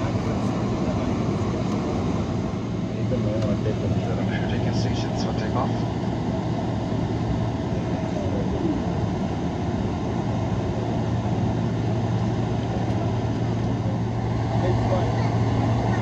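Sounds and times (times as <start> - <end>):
jet engines low hum in cabin: 0.0 - 16.0.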